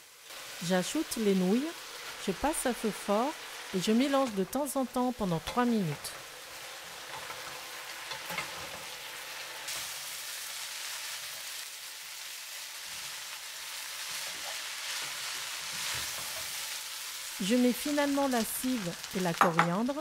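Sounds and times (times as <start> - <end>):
noodles sizzling in a pan: 0.0 - 20.0.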